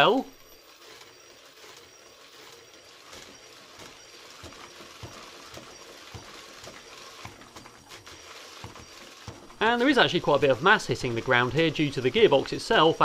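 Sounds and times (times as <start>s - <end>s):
motor and gearbox whirring: 0.0s - 13.0s.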